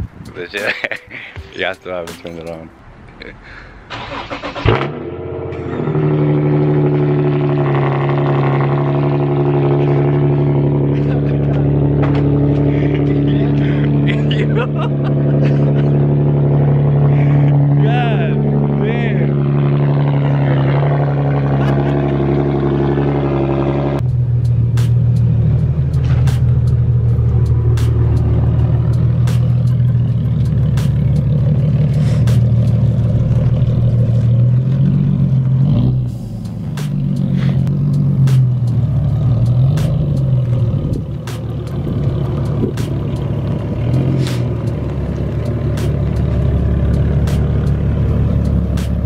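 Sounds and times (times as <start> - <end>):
car engine starting and idling: 0.0 - 49.0.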